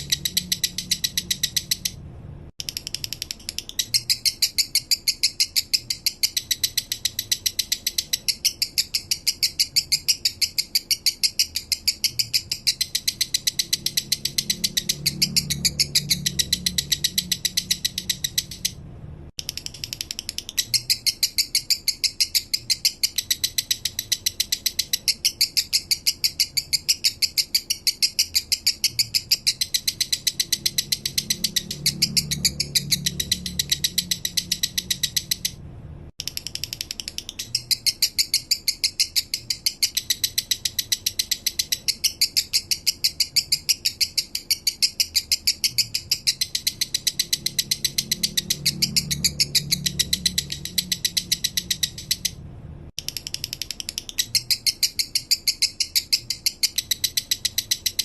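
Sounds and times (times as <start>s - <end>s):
lovebird chattering chirps: 0.0s - 2.0s, 2.6s - 18.8s, 19.4s - 35.6s, 36.2s - 52.4s, 53.0s - 58.0s.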